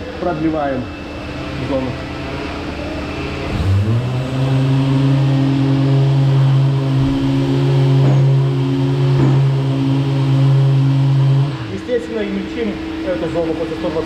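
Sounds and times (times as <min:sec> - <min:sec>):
orbital sander running: 0:00.9 - 0:14.0.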